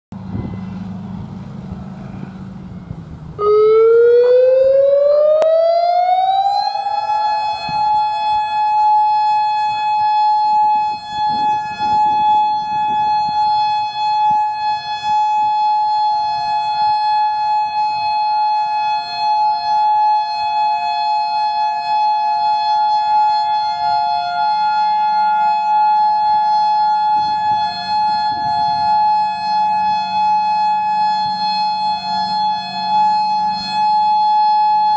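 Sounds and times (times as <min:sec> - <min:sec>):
lower steady siren tone: 0:00.2 - 0:34.9
rising warning siren: 0:00.2 - 0:34.9.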